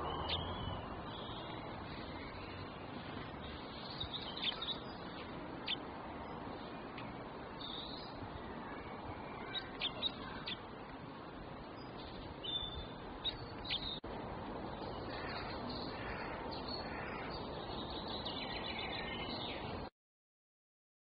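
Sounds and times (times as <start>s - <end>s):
birds chirping: 0.0s - 19.9s
steady background hiss: 0.0s - 19.9s.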